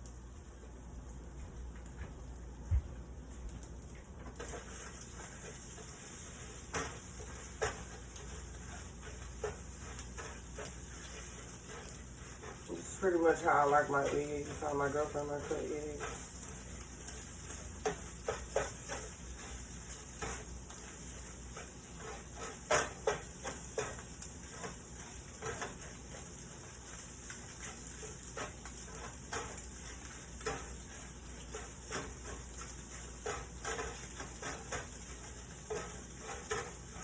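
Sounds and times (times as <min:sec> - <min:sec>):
eggs sizzling in a pan: 0:00.0 - 0:37.0
utensil scraping a pan: 0:04.4 - 0:37.0.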